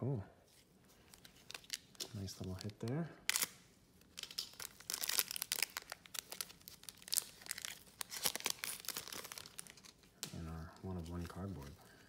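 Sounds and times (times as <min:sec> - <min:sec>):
foil wrapper crinkling and tearing: 0:01.0 - 0:12.0.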